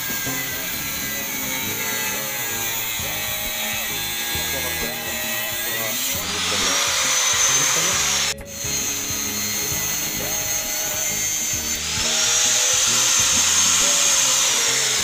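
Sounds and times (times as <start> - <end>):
angle grinder whining: 0.0 - 15.0.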